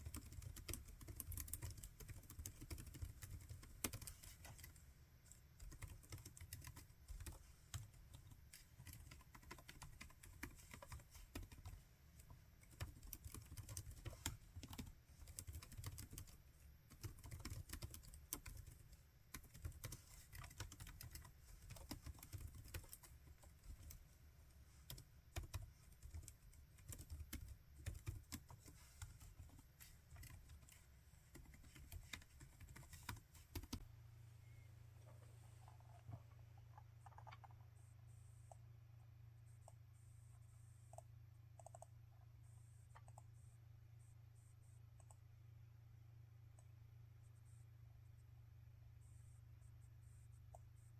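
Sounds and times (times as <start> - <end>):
laptop keyboard typing: 0.0 - 33.9, 35.6 - 38.7, 39.4 - 43.6, 45.0 - 45.2.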